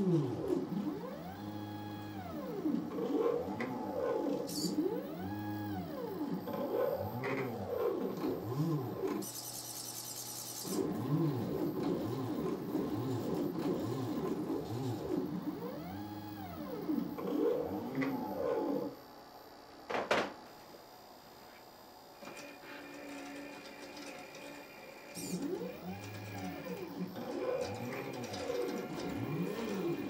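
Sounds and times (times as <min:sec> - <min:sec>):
stepper motors whining: 0:00.0 - 0:19.0, 0:22.2 - 0:30.0.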